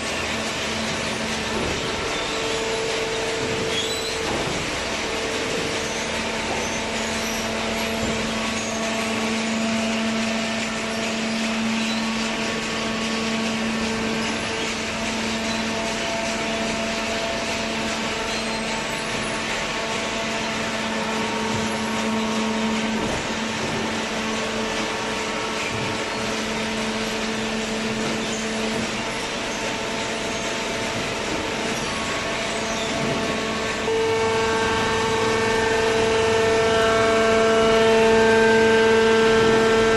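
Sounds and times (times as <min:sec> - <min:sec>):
electric motor and pump humming: 0:00.0 - 0:39.9.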